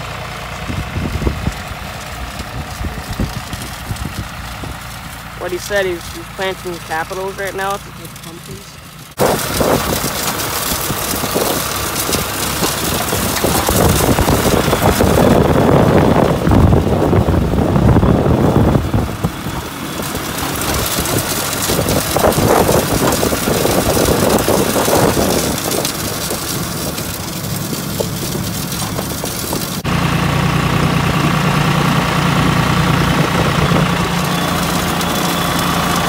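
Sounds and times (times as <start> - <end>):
planter mechanical clatter: 0.0 - 36.0
tractor engine running under load: 0.0 - 36.0.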